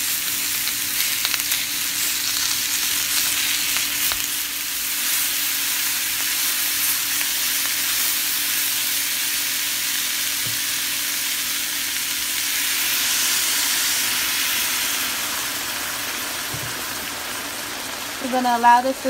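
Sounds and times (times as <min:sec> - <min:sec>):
chicken sizzling in a skillet: 0:00.0 - 0:19.0.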